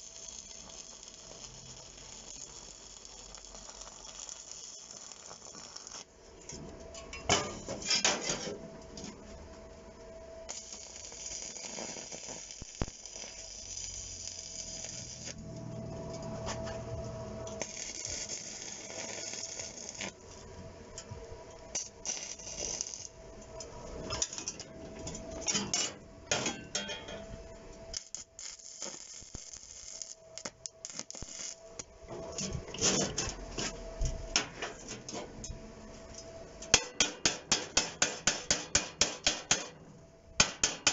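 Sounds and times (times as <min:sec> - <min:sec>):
welder arc crackling: 0:00.0 - 0:06.7, 0:09.9 - 0:35.6, 0:36.2 - 0:39.8, 0:40.4 - 0:40.9.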